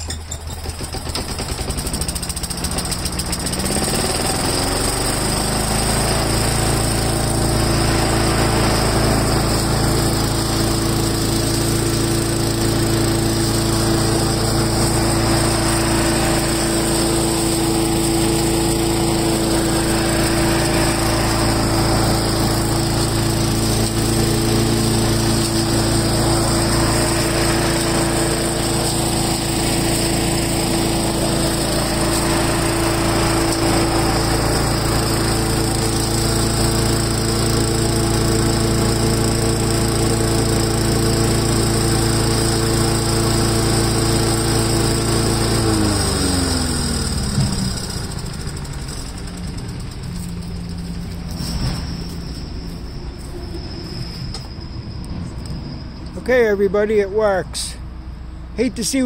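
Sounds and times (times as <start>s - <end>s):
small gasoline engine running: 0.0s - 53.3s.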